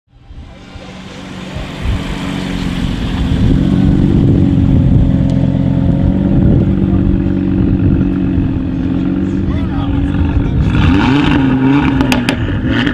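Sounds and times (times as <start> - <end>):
car engine running: 0.2 - 12.9.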